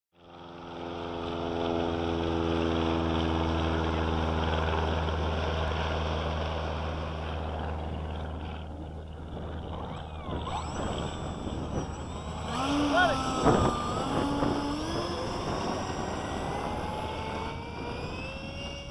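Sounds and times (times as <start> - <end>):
low engine drone: 0.2 - 18.9.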